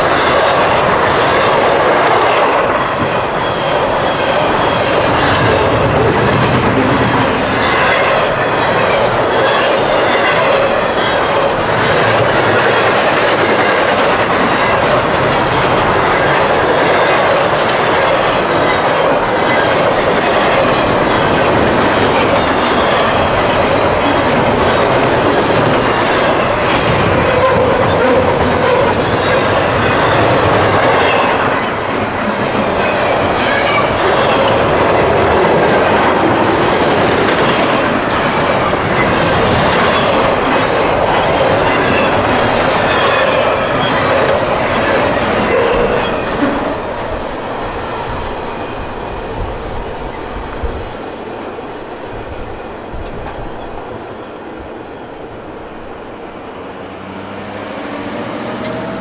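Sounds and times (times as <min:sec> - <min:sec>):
freight train wheels clattering on rails: 0:00.0 - 0:59.0.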